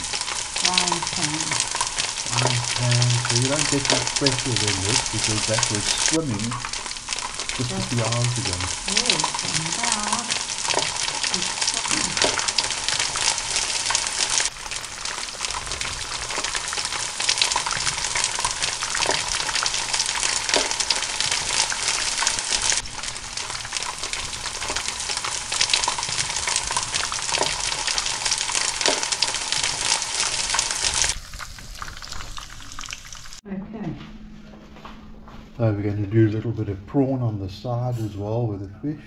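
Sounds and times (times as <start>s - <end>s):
fish frying in hot oil: 0.0s - 33.4s.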